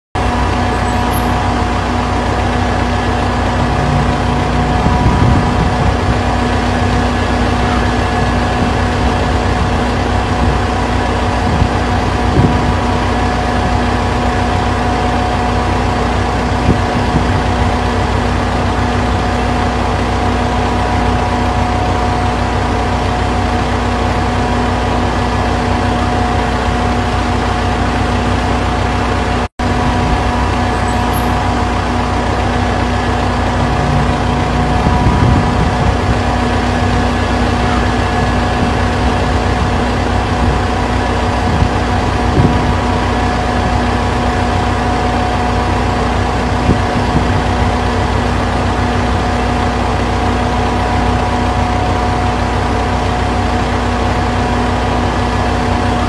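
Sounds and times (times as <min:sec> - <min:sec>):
vehicle engine idling: 0:00.2 - 0:56.0.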